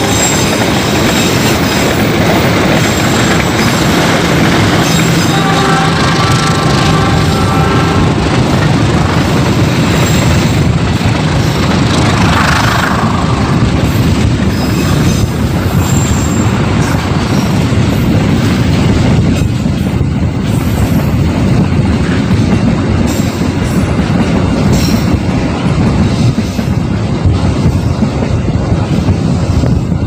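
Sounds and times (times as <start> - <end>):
train wagons rumbling on rails: 0.0 - 30.0.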